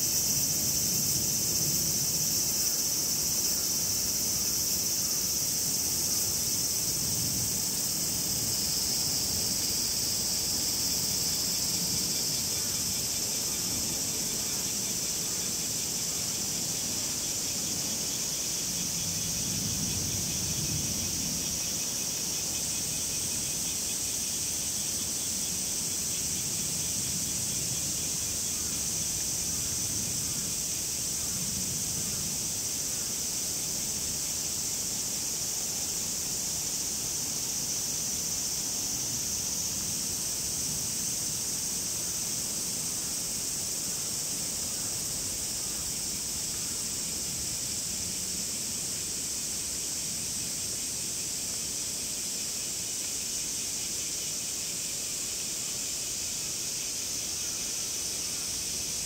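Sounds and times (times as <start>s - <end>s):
cicadas chorus: 0.0s - 59.0s
fainter pulsing insect call: 0.0s - 59.0s.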